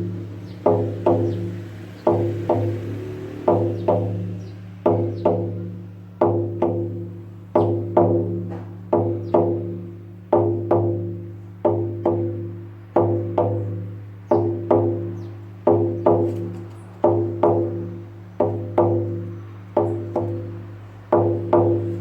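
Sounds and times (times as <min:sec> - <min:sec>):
frame drum beating: 0:00.0 - 0:22.0.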